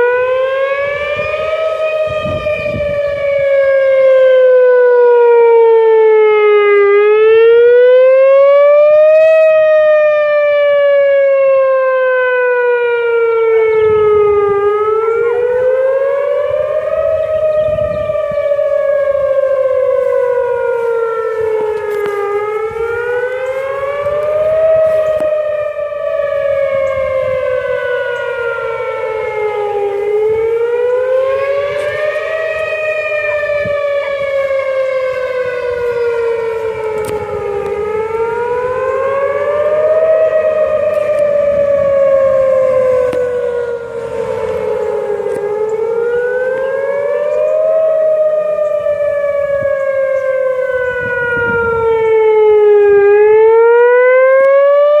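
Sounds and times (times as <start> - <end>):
tornado siren wailing: 0.0 - 55.0.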